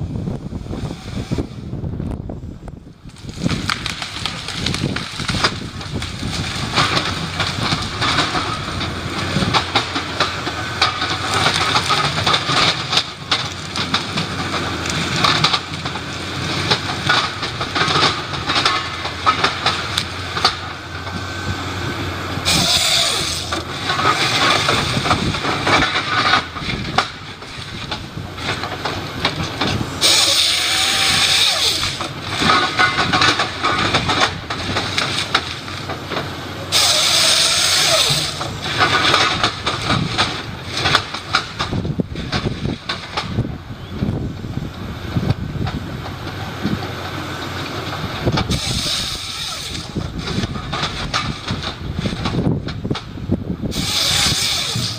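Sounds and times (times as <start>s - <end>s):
heavy machinery clattering: 3.0s - 54.9s.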